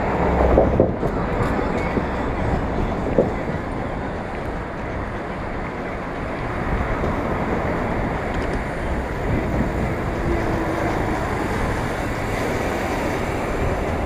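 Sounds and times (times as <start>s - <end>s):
street traffic: 0.0s - 14.0s
wind rushing on microphone: 0.0s - 14.0s.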